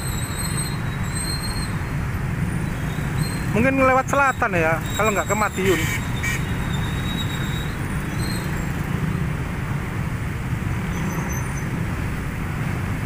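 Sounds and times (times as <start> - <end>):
motorcycle and car traffic: 0.0 - 13.0.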